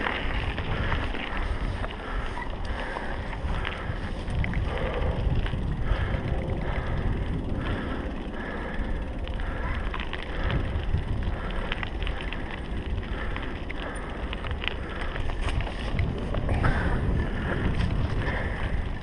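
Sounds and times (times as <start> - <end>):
bike clicks and rattles: 0.0 - 19.0
bike tyre noise: 0.0 - 19.0
wind rumble on microphone: 0.0 - 19.0.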